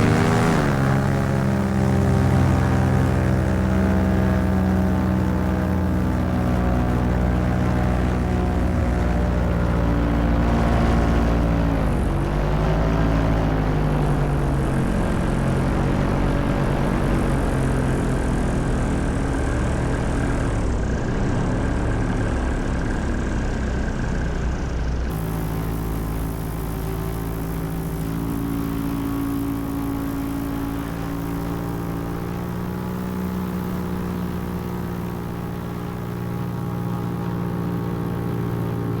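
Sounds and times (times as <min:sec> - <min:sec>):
paramotor engine and propeller: 0:00.0 - 0:39.0.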